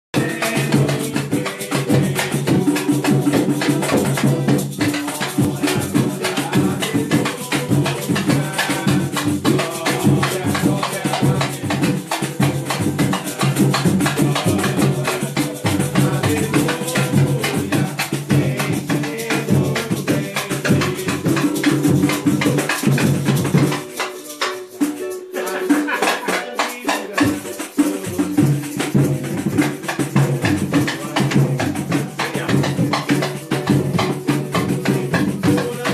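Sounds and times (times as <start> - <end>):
band playing a hymn: 0.2 - 35.9
sharp percussion strokes: 0.2 - 35.9.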